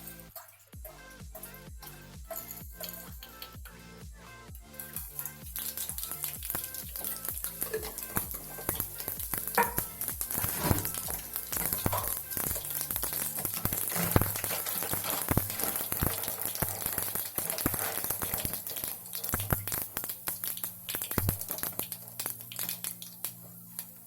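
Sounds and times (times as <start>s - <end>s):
seeds popping in hot oil: 0.0s - 3.8s, 4.6s - 24.0s
oil sizzling: 0.0s - 4.0s, 4.7s - 24.0s.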